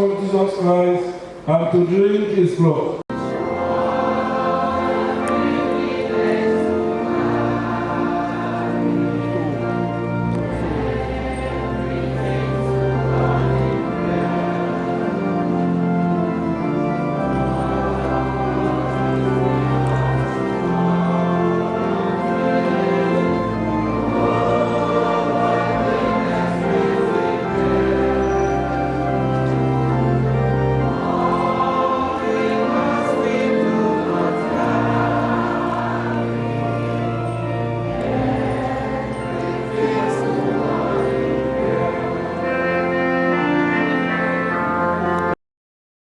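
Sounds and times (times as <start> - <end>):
choir singing a slow hymn: 3.1 - 45.2
organ playing slow chords: 3.1 - 45.4.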